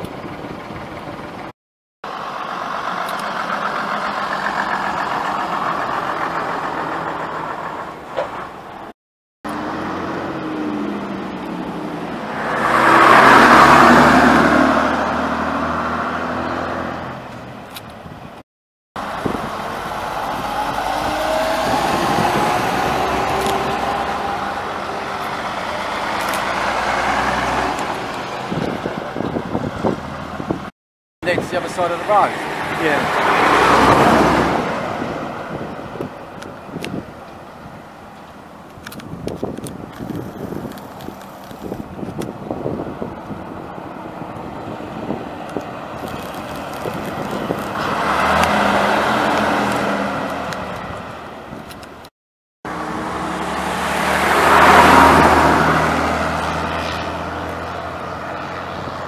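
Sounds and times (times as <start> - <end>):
diesel buses driving past: 2.1 - 8.9, 9.5 - 17.8, 19.0 - 39.2, 39.8 - 52.1, 52.7 - 59.0.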